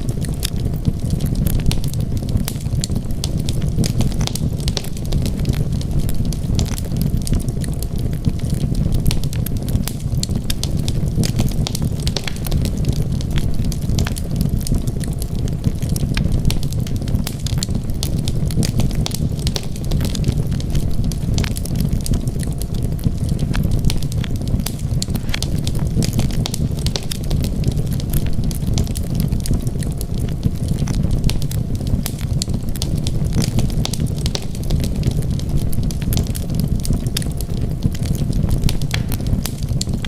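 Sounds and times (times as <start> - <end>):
fire crackling and popping: 0.0 - 40.0
wood fire rumbling: 0.0 - 40.0.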